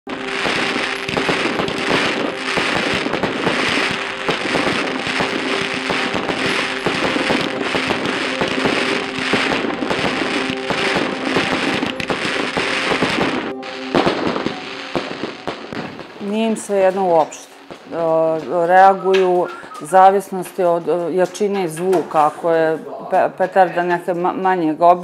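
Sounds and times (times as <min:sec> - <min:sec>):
fireworks bursting and crackling: 0:00.1 - 0:22.7
music playing: 0:00.1 - 0:23.0.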